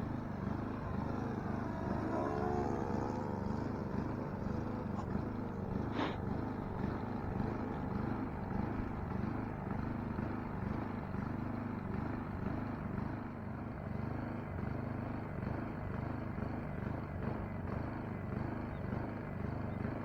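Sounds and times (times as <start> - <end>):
model plane engine running: 0.0 - 20.0.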